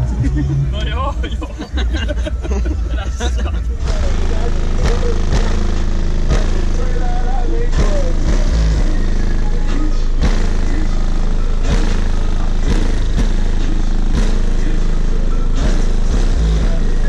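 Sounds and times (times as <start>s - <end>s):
loud bass-heavy music: 0.0s - 17.0s.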